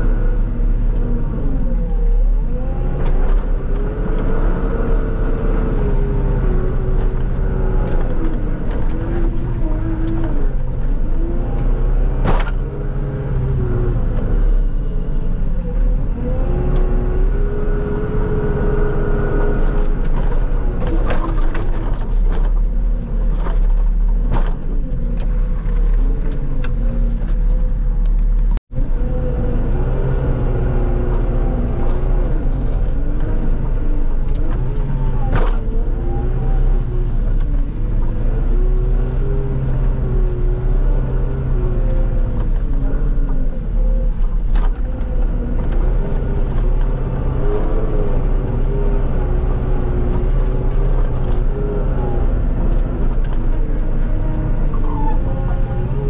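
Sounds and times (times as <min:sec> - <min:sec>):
diesel engine pushing snow: 0:00.0 - 0:56.0.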